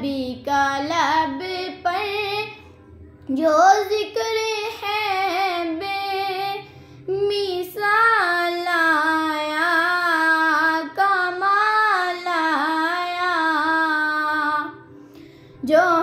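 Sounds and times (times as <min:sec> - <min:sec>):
girl singing unaccompanied: 0:00.0 - 0:02.7, 0:03.3 - 0:14.9, 0:15.6 - 0:16.0.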